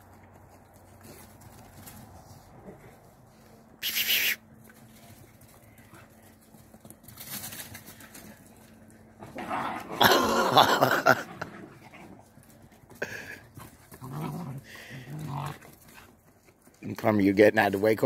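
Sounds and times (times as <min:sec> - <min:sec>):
dogs playing roughly: 0:00.3 - 0:16.8.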